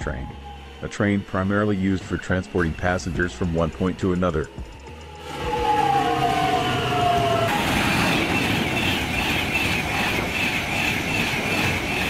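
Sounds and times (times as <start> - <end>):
electric train motor whine: 0.0 - 12.0
high-speed train rushing past: 0.0 - 12.0
wheel and rail noise: 0.0 - 12.0.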